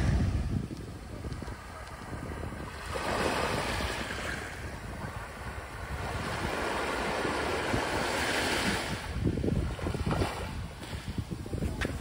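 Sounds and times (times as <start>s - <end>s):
sea waves washing up beach: 0.0s - 12.0s
wind rumbling on microphone: 0.0s - 12.0s.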